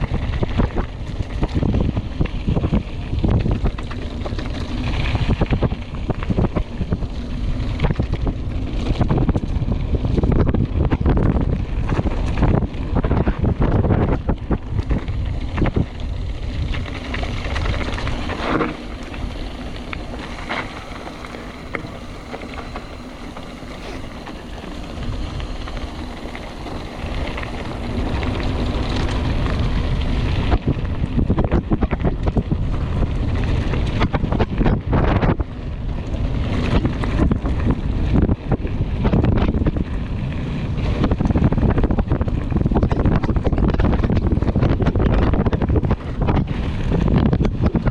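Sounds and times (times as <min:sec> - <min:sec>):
bike clattering over rough ground: 0:00.0 - 0:47.9
wind buffeting microphone: 0:00.0 - 0:47.9.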